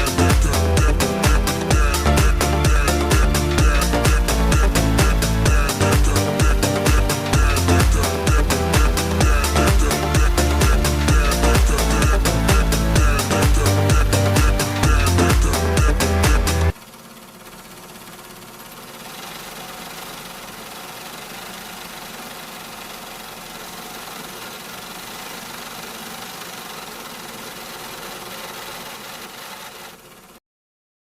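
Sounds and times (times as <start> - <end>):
vehicle engine idling: 0.0 - 30.4.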